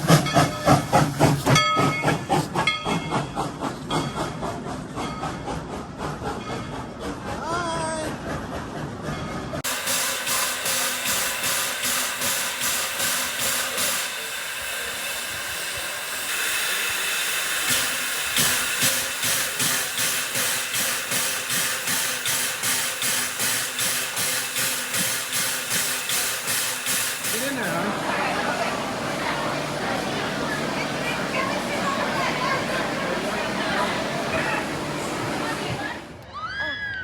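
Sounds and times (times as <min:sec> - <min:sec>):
steam locomotive chuffing: 0:00.0 - 0:36.2.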